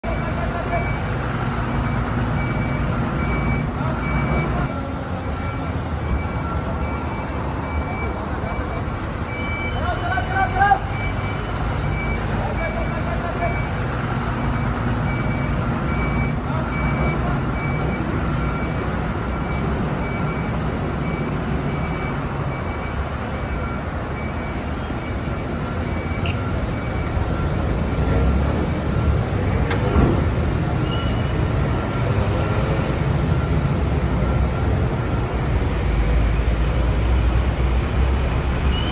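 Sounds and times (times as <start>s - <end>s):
faint high repeating beep: 0.0s - 38.9s
heavy truck engine rumble: 0.0s - 38.9s.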